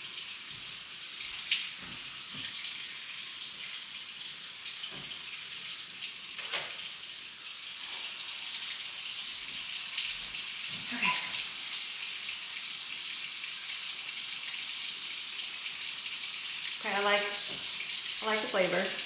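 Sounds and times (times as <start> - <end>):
water running: 0.0 - 19.0.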